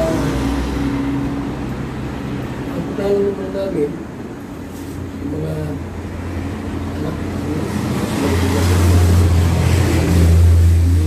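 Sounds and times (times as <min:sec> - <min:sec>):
vehicle passing with engine rumble: 0:00.0 - 0:11.0.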